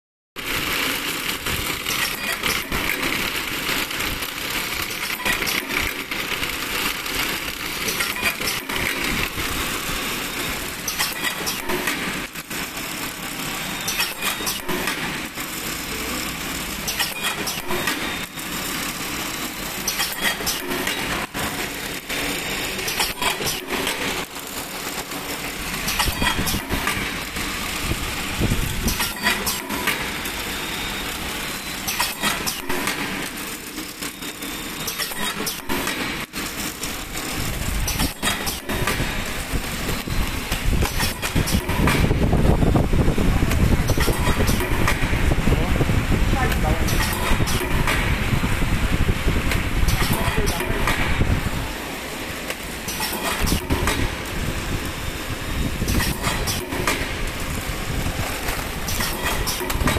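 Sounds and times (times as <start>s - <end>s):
packing machine clattering: 0.4s - 59.9s.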